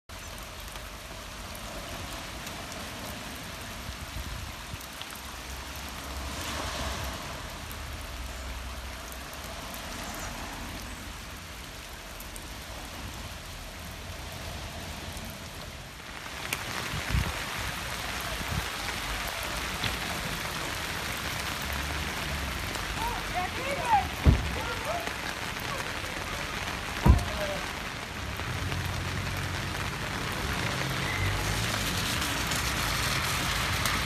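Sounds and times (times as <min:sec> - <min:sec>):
steady rain falling: 0:00.0 - 0:34.0
runoff water running: 0:00.1 - 0:34.0.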